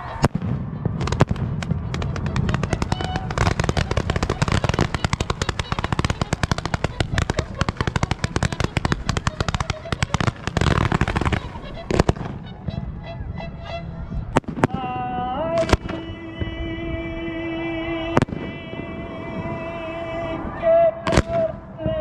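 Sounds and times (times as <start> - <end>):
firework bangs and crackles: 0.0 - 12.9, 14.3 - 22.0.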